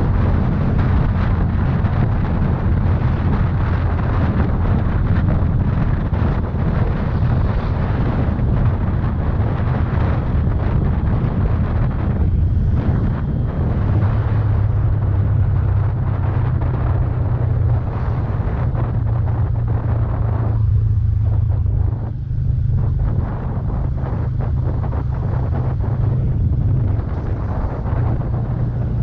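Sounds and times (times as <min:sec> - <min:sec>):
motorcycle engine drone: 0:00.0 - 0:29.0
wind noise on microphone: 0:00.0 - 0:29.0.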